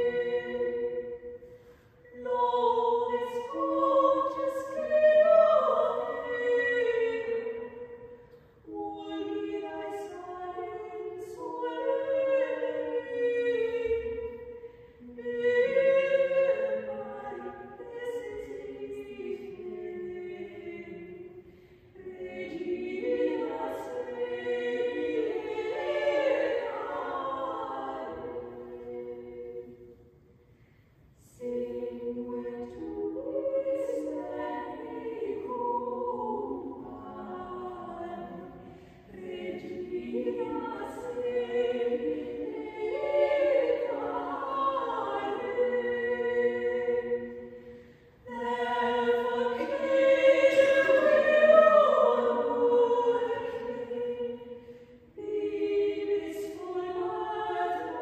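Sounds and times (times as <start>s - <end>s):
women singing a cappella carol: 0.0s - 30.1s, 31.1s - 58.0s.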